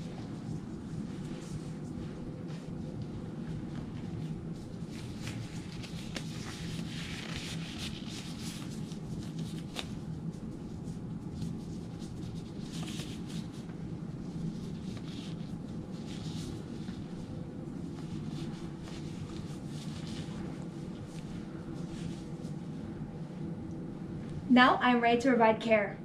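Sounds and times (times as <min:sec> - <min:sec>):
gloves and gown rustling: 0:00.0 - 0:24.5
steady low hum: 0:00.0 - 0:26.0.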